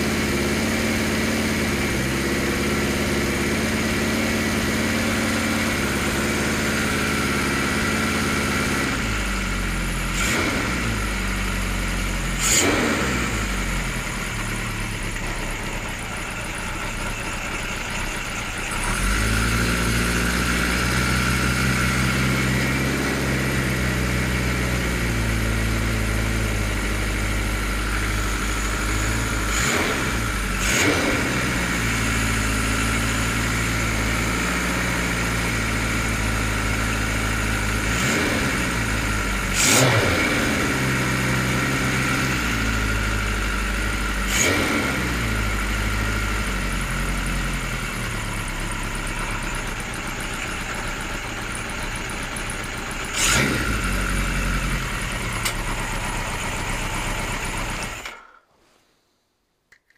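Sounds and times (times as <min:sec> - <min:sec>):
motorcycle engine running: 0:00.0 - 0:58.4.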